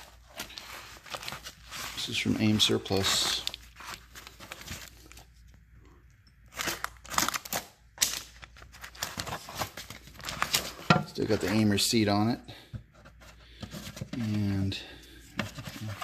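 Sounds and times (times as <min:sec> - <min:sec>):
wet cardboard crinkling and rustling: 0:00.0 - 0:05.6, 0:06.5 - 0:12.1, 0:12.8 - 0:16.0.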